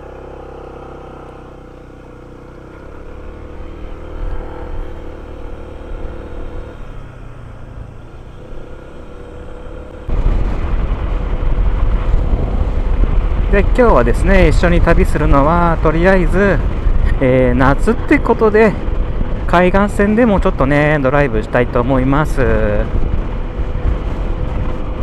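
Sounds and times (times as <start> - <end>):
scooter engine idling and revving: 0.0 - 25.0
loud low rumble: 2.8 - 25.0.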